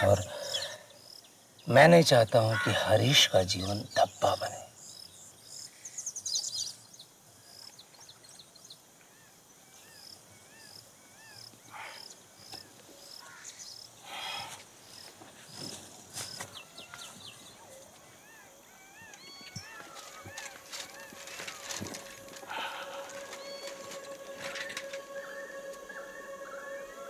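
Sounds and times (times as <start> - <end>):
crickets chirping: 0.0 - 27.0
small birds calling: 0.0 - 27.0.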